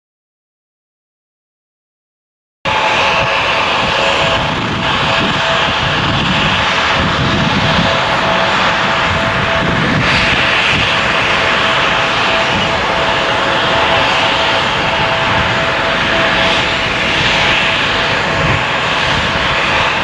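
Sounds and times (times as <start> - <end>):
jet engines on approach: 2.7 - 20.0.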